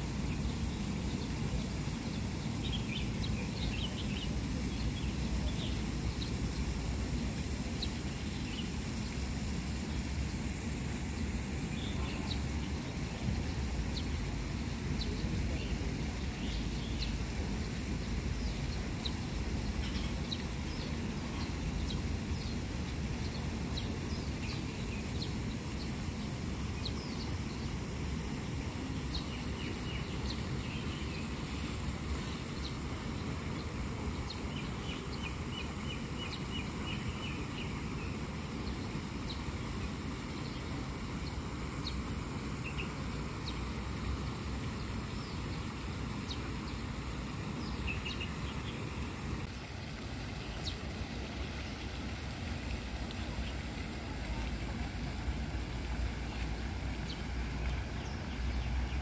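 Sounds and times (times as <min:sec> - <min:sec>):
small birds chirping: 0:00.3 - 0:49.5, 0:53.0 - 0:59.0.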